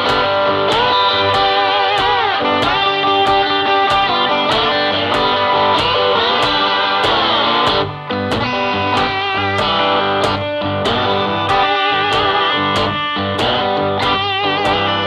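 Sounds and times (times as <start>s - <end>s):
electric guitar over a beat: 0.0s - 15.0s.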